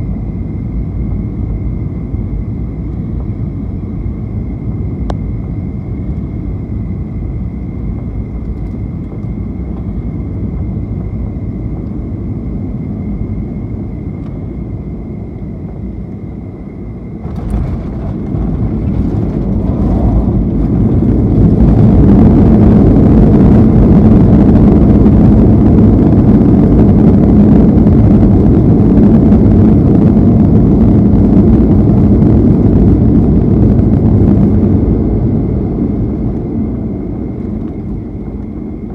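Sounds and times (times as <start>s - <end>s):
airplane cabin drone with whine: 0.0s - 38.9s
jet engines in reverse thrust: 0.0s - 38.9s.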